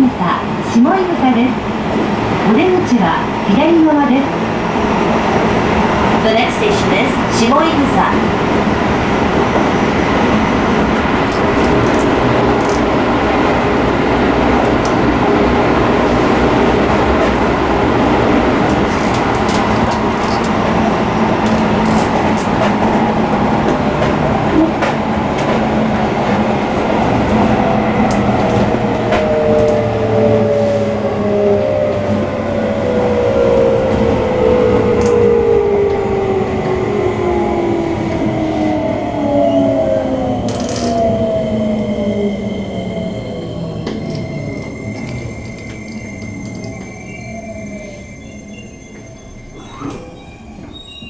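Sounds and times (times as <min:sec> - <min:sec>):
train wheels rumbling on rail: 0:00.0 - 0:51.0
train braking whine: 0:04.8 - 0:51.0.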